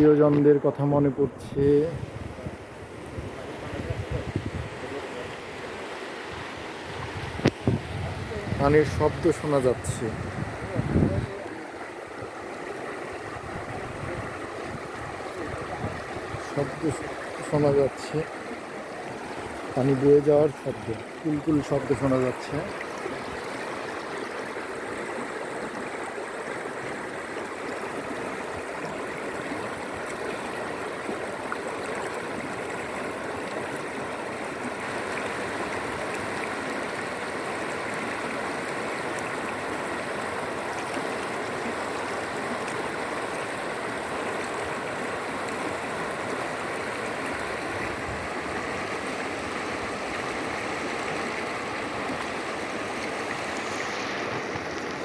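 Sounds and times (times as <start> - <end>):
river babbling over stones: 0.0 - 55.0.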